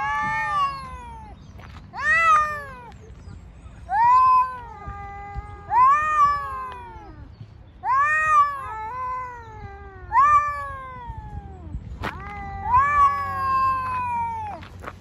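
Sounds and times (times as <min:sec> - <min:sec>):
cat yowling: 0:00.0 - 0:01.4, 0:02.0 - 0:03.0, 0:03.9 - 0:14.6.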